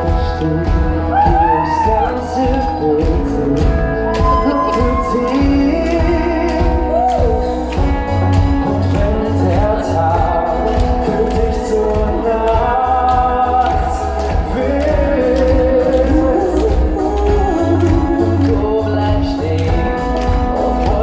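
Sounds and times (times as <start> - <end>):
live pop song with band: 0.0 - 21.0
person singing: 0.0 - 21.0.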